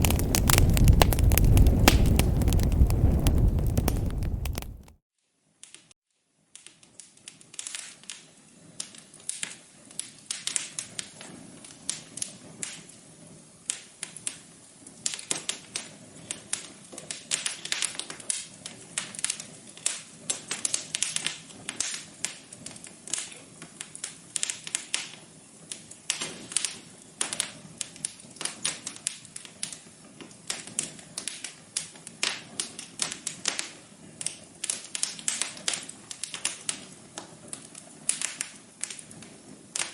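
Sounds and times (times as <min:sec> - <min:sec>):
wood fire crackling: 0:00.0 - 0:05.0, 0:07.0 - 0:39.9.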